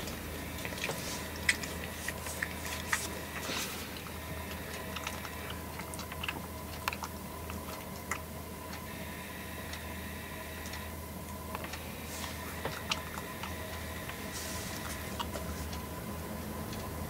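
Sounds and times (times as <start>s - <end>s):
cat chewing grass: 0.0s - 9.8s, 11.5s - 17.0s
low electrical hum: 0.0s - 17.0s.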